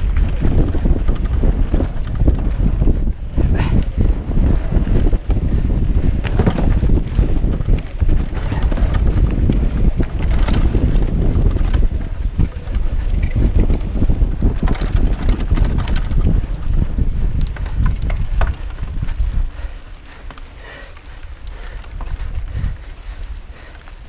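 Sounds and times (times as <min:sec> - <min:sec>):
tyre rumble: 0:00.0 - 0:20.8
bike rattling and clicking: 0:00.0 - 0:24.0
wind buffeting microphone: 0:00.0 - 0:24.0.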